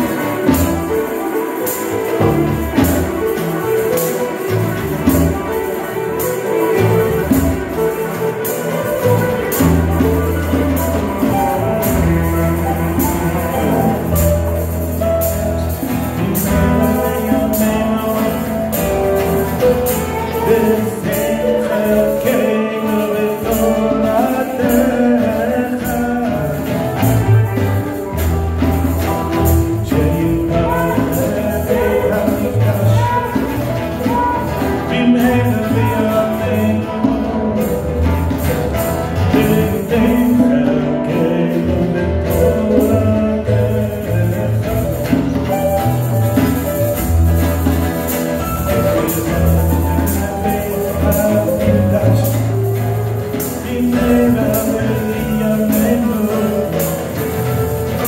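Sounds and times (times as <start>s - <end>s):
man singing: 0.0s - 47.4s, 48.2s - 58.0s
acoustic guitar strumming: 0.0s - 58.0s
mandolin strumming: 0.0s - 58.0s.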